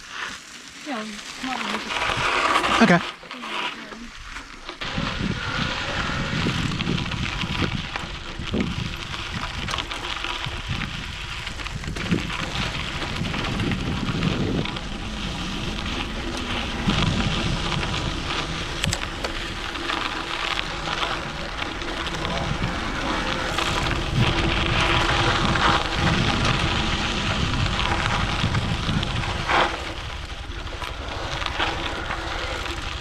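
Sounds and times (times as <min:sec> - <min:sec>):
tyre road noise: 0:00.0 - 0:33.0
wind buffeting microphone: 0:04.1 - 0:33.0.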